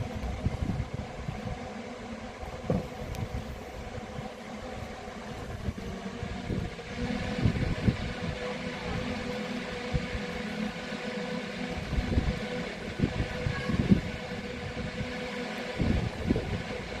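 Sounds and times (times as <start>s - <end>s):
wind buffeting microphone: 0.0s - 10.5s, 11.7s - 17.0s
steady hum: 0.0s - 17.0s.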